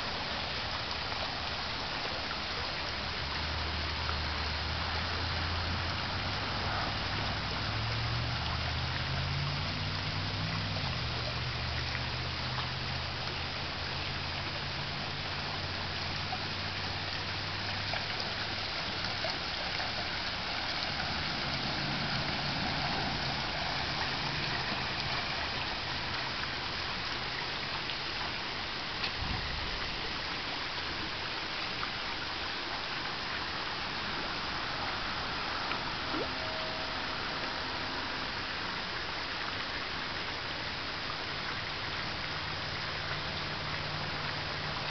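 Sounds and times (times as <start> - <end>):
fountain water bubbling: 0.0 - 44.9
small waterfall running: 0.0 - 44.9.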